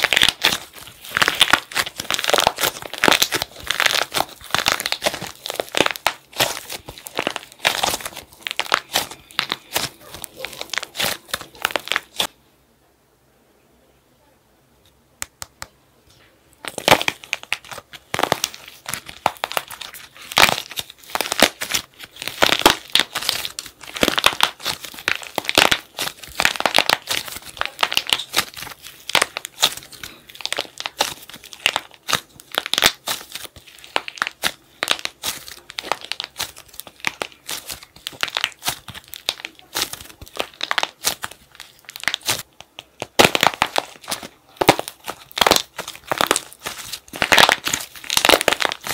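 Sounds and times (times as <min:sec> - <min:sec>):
plaster shell cracking: 0:00.0 - 0:12.3, 0:16.6 - 0:48.9.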